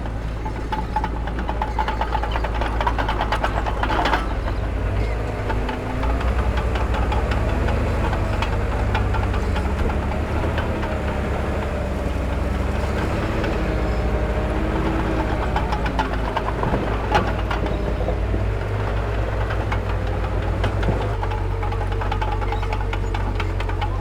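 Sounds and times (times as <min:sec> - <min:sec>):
diesel machinery engine rumble: 0:00.0 - 0:24.0
metallic clanks and knocks: 0:00.0 - 0:24.0.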